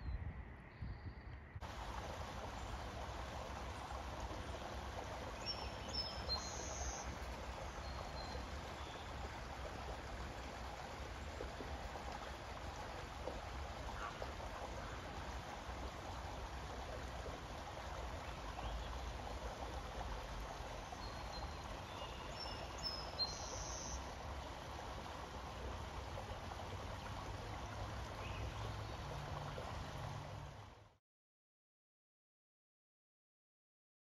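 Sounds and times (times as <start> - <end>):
creek babbling over rocks: 1.6 - 31.0.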